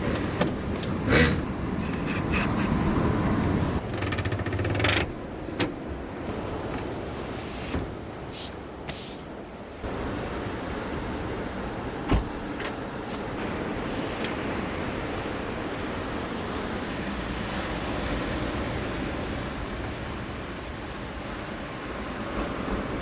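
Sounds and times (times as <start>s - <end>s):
sea waves: 0.0s - 3.9s, 5.2s - 23.0s
wind: 0.0s - 23.0s.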